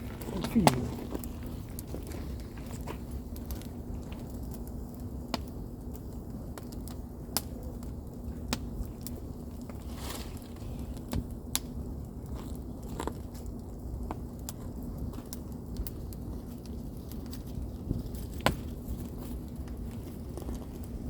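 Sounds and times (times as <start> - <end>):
campfire pops and crackles: 0.0 - 21.0
fire low rumble: 0.0 - 21.0.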